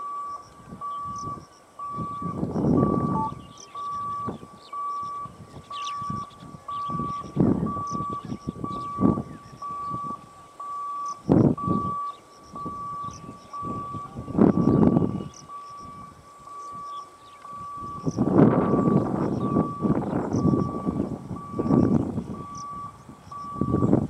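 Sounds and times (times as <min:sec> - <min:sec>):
electronic warning beep: 0:00.0 - 0:24.0
small birds chirping: 0:00.0 - 0:24.0.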